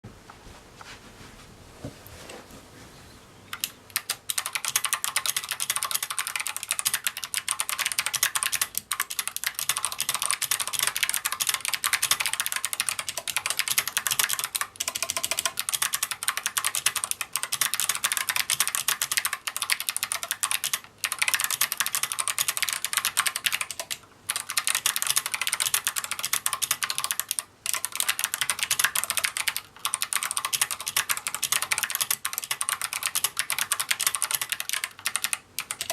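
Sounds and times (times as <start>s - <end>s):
fast mechanical keyboard typing: 3.5s - 35.9s.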